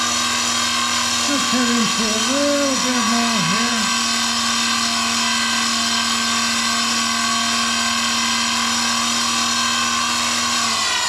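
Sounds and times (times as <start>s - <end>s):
lathe motor whining: 0.0s - 11.0s.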